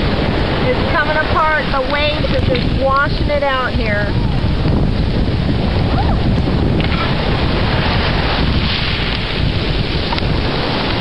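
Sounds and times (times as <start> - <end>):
heavy rain rushing: 0.0 - 11.0
wind rumbling on microphone: 0.0 - 11.0.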